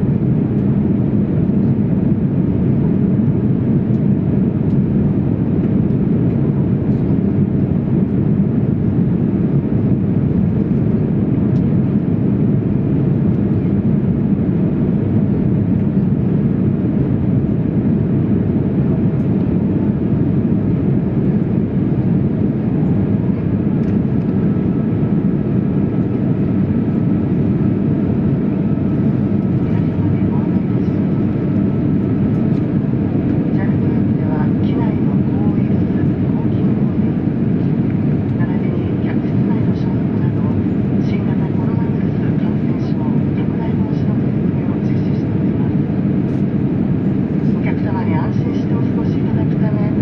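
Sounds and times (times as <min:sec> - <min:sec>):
jet airliner cabin rumble: 0:00.0 - 0:50.0.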